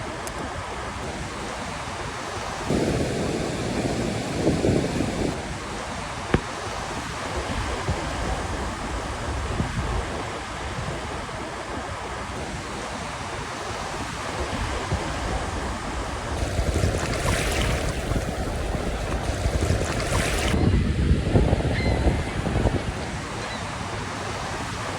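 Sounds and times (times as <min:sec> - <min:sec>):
ocean surf washing ashore: 0:00.0 - 0:21.4
wind buffeting microphone: 0:00.4 - 0:24.1.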